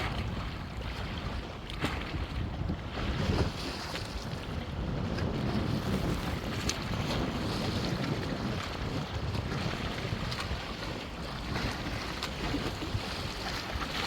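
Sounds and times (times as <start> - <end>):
river waves splashing: 0.0 - 14.0
wind buffeting microphone: 0.0 - 14.0.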